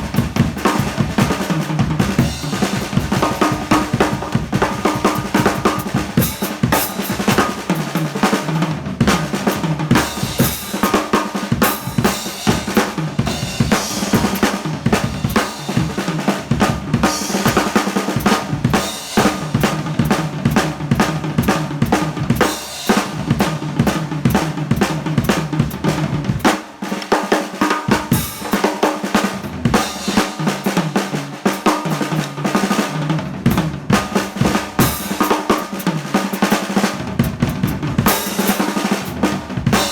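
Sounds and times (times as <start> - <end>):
drum kit playing: 0.0 - 39.9.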